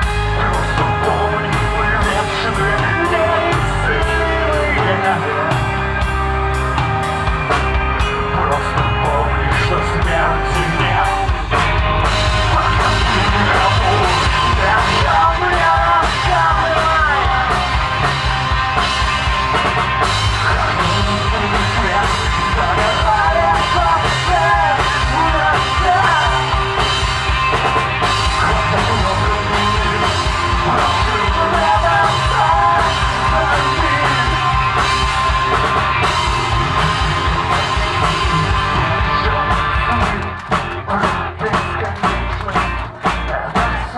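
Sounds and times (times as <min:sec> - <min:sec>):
person singing: 0:00.0 - 0:06.0, 0:08.0 - 0:43.9
rock band playing: 0:00.0 - 0:43.9.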